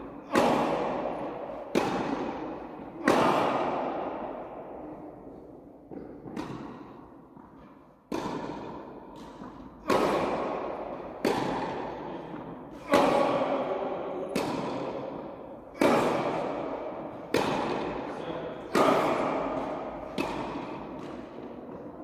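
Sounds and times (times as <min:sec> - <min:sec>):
rackets hitting tennis ball: 0:00.0 - 0:22.0
tennis ball bouncing on court: 0:00.1 - 0:22.0.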